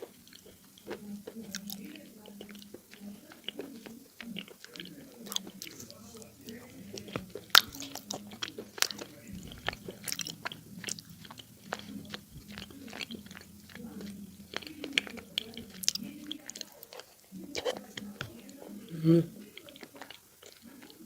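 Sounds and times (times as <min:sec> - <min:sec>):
person chewing crunchy clay: 0:00.0 - 0:21.0.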